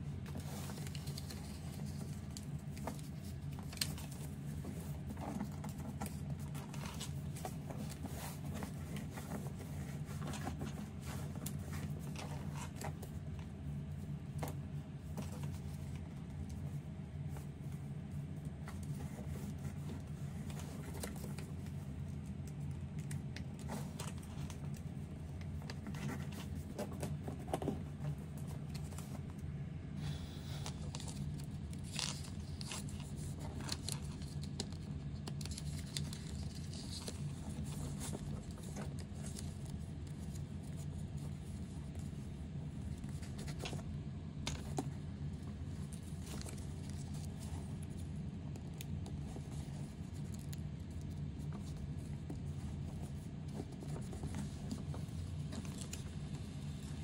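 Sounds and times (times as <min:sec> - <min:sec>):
paper rustling and creasing: 0:00.0 - 0:57.0
steady low hum: 0:00.0 - 0:57.0.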